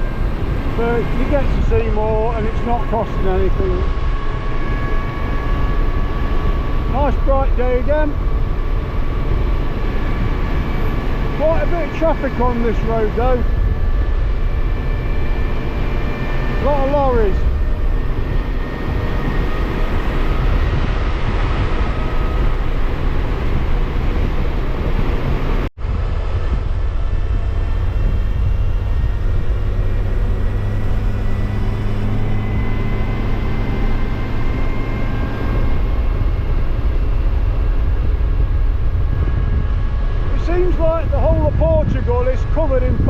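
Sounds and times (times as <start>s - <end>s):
motorcycle engine and tyre drone: 0.0s - 43.0s
wind rush on microphone: 0.0s - 43.0s.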